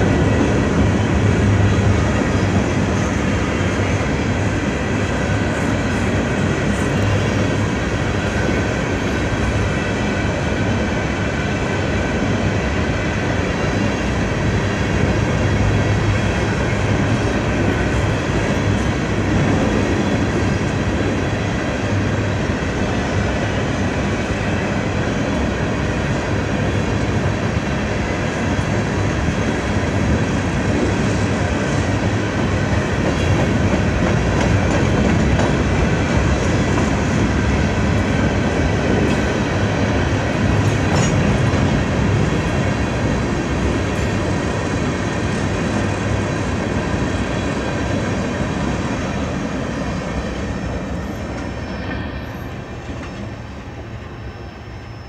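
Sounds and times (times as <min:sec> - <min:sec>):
train cars rolling on rails: 0:00.0 - 0:55.0.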